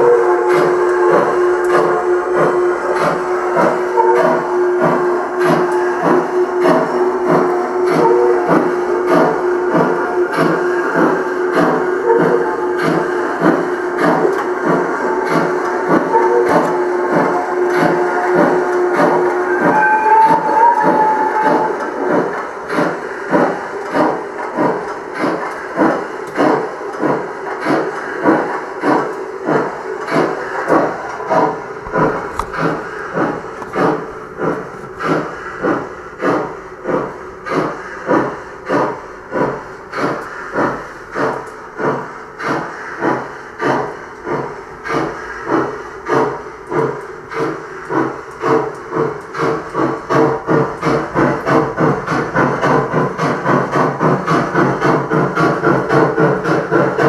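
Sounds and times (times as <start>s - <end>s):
model steam locomotive chuffing: 0.0s - 57.0s.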